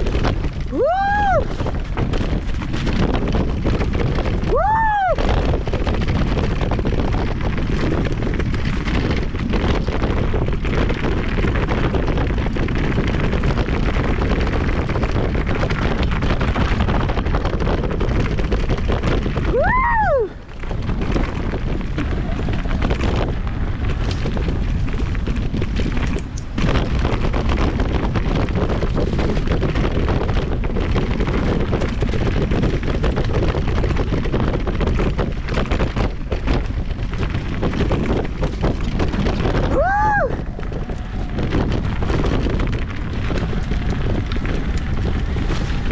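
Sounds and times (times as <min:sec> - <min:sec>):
tyre rumble: 0:00.0 - 0:45.9
wind rushing over microphone: 0:00.0 - 0:45.9.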